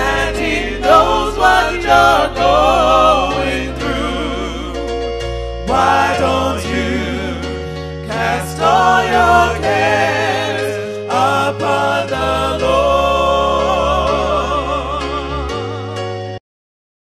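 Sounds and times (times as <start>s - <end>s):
gospel singing: 0.0s - 16.4s
held bass notes: 0.0s - 16.4s.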